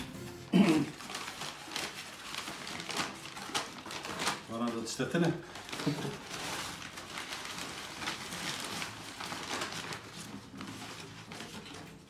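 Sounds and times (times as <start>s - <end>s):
packing paper rustling and crinkling: 0.0s - 12.0s.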